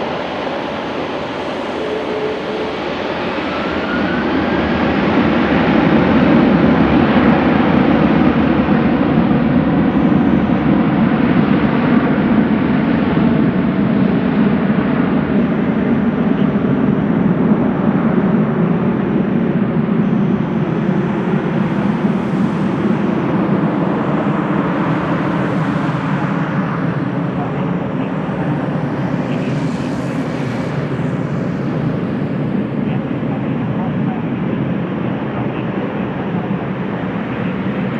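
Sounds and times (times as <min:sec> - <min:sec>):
jet engines at takeoff: 0:00.0 - 0:37.9.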